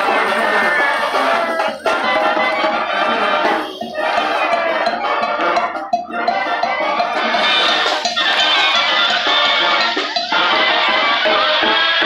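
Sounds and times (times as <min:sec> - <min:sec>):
festive dance band music: 0:00.0 - 0:12.0.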